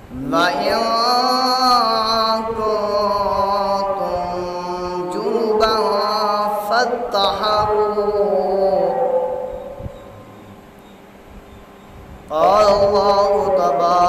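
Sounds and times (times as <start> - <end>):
man chanting recitation: 0.0 - 10.4, 12.3 - 14.0.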